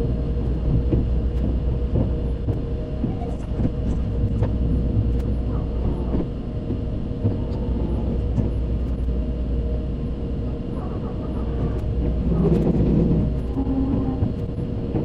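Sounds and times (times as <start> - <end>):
train rumble inside car: 0.0 - 15.0.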